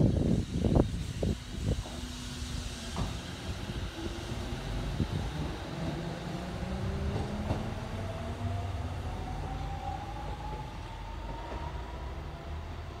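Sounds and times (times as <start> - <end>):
wheels rumbling on rail: 0.0 - 13.0
tram motor whine rising: 1.4 - 13.0.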